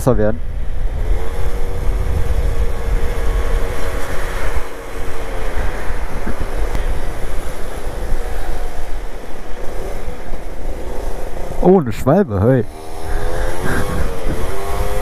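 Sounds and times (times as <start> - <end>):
scooter engine: 0.0 - 15.0
wind rumble on microphone: 0.0 - 15.0.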